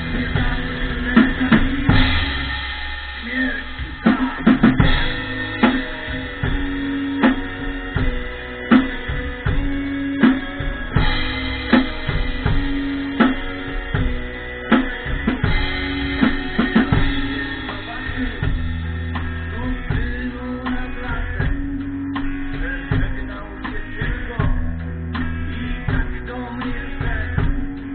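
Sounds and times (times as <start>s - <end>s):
drum kit playing: 0.0s - 27.9s
rock song with guitar: 0.0s - 27.9s.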